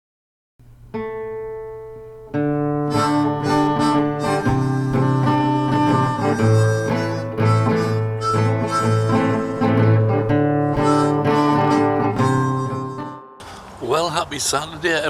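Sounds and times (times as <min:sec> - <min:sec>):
acoustic guitar music: 0:00.6 - 0:13.5.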